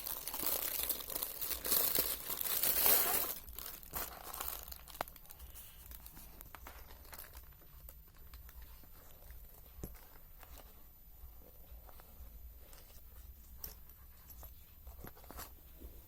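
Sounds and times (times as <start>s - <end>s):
wrapping rustling and crinkling: 0.0s - 16.0s.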